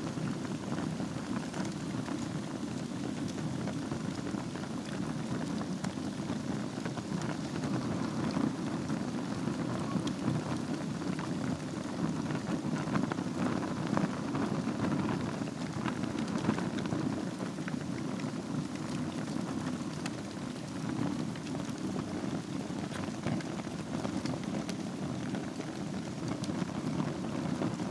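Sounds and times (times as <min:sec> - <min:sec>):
fire crackling and popping: 0:00.0 - 0:27.9
fire flame rushing: 0:00.0 - 0:27.9.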